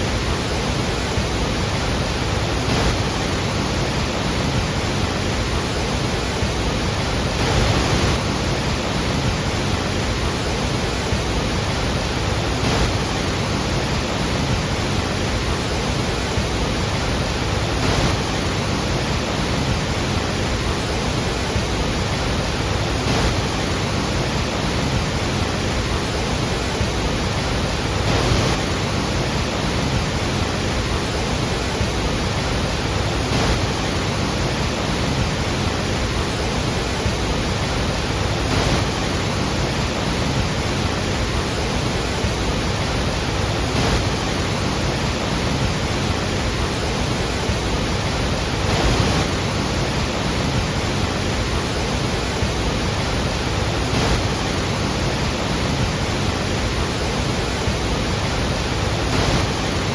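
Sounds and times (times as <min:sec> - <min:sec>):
waterfall crashing: 0:00.0 - 0:59.9.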